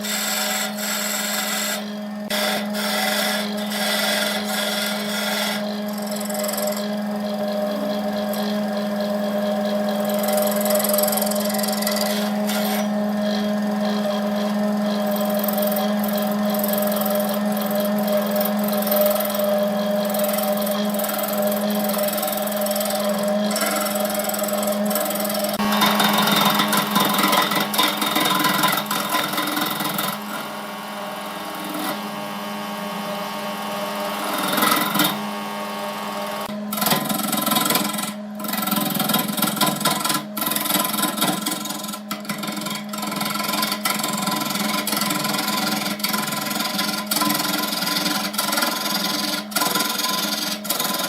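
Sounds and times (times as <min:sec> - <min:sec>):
tool cutting spinning wood: 0:00.0 - 0:51.0
wood lathe humming: 0:00.0 - 0:51.0.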